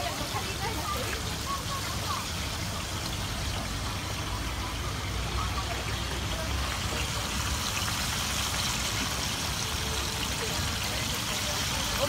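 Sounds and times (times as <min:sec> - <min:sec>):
deep-frying sizzle and bubbling: 0:00.0 - 0:12.0.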